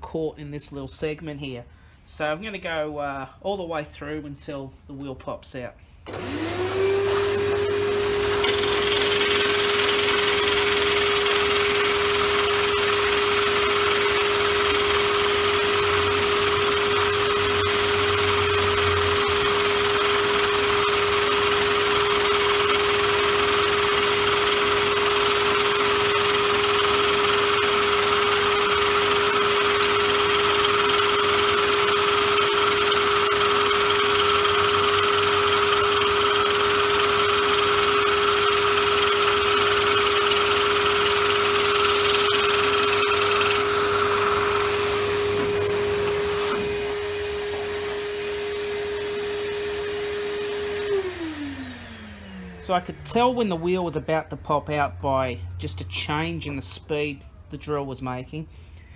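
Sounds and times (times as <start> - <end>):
drill press humming: 6.0 - 53.4
blower hose rushing: 6.0 - 53.6
cutter boring through wood: 6.1 - 53.6.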